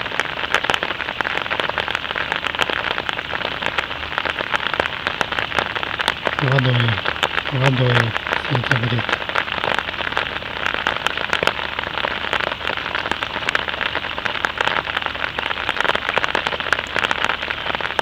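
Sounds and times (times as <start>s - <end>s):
steady rain pattering: 0.0s - 18.0s.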